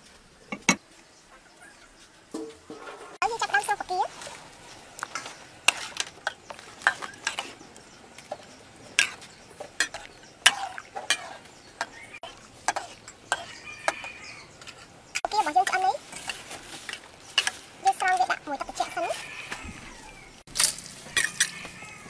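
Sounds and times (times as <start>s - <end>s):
metal ladle scraping a wok: 2.4s - 19.7s, 20.6s - 21.9s.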